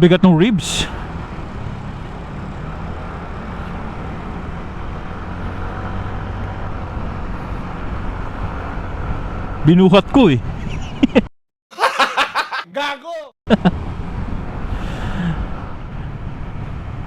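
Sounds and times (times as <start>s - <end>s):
engine hum: 0.0s - 11.2s, 13.5s - 17.0s
road rumble: 0.0s - 11.3s, 13.5s - 17.0s.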